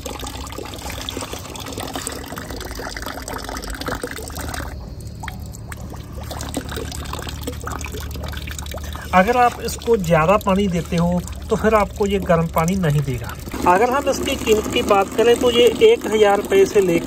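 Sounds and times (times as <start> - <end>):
thin stream of water pouring: 0.0 - 17.0.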